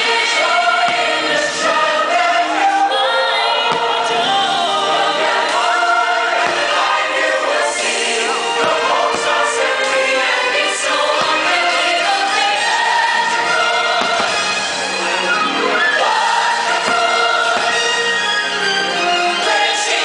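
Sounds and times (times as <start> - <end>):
choir singing with orchestra: 0.0 - 20.0.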